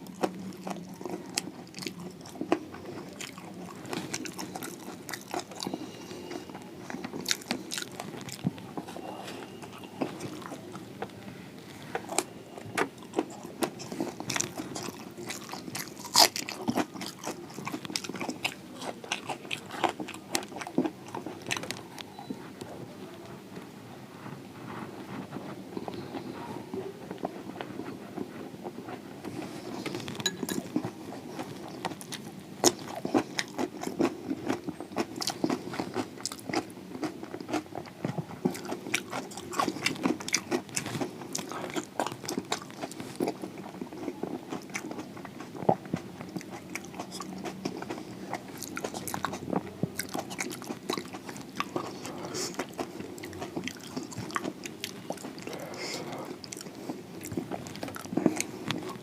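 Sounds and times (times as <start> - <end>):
crunchy chewing: 0.0 - 22.7, 24.7 - 59.0.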